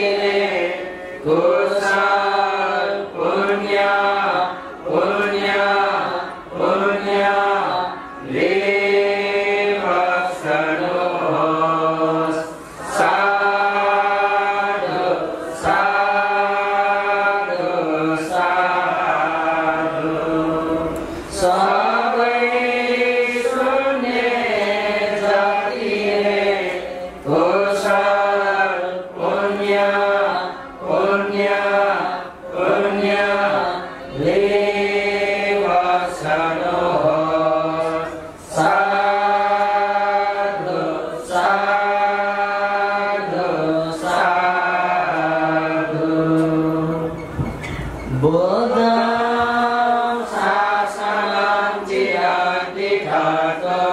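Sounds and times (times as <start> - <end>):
melodic chanting: 0.0 - 53.9.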